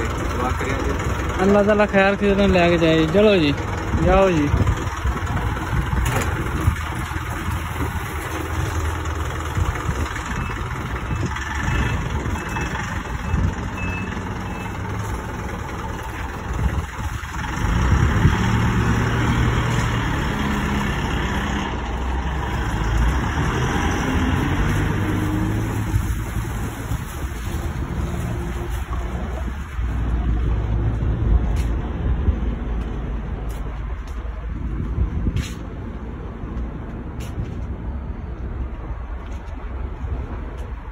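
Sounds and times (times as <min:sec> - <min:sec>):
diesel truck engine driving off: 0:00.0 - 0:37.8.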